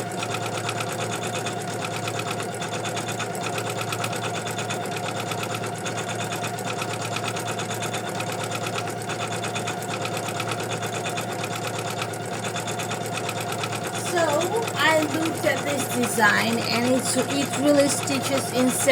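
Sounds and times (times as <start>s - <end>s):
embroidery machine stitching: 0.0s - 18.9s.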